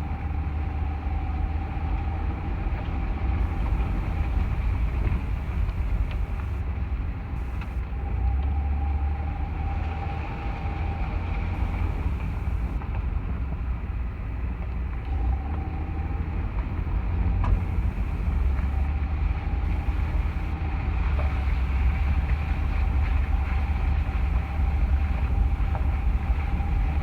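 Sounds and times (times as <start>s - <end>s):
truck engine running: 3.1s - 27.0s.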